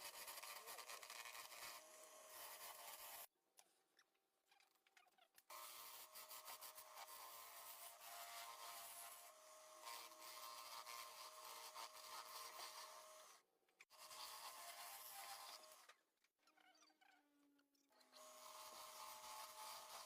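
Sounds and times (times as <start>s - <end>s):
small power tool whining on wood: 0.0s - 3.3s, 5.5s - 20.0s.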